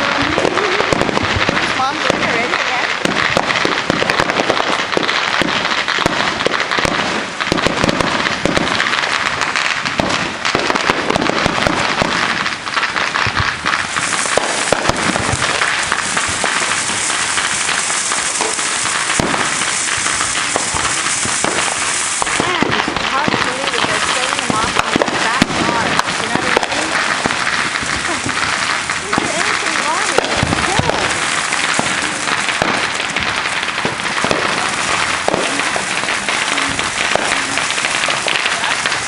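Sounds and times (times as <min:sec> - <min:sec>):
firecrackers crackling and popping: 0:00.0 - 0:39.0
fountain firework hissing: 0:00.0 - 0:39.0.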